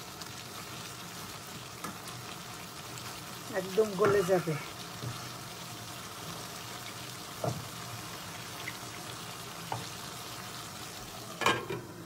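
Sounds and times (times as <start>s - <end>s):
curry sizzling in a wok: 0.0s - 12.0s.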